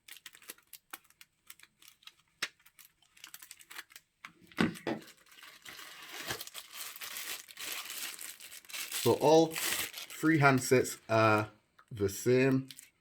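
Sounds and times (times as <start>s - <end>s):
plastic packaging crinkling: 0.0s - 11.4s, 12.4s - 13.0s.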